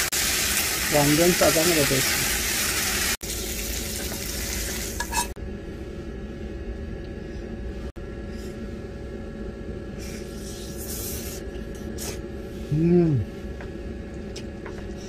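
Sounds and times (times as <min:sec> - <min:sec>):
heater humming: 0:00.0 - 0:15.0.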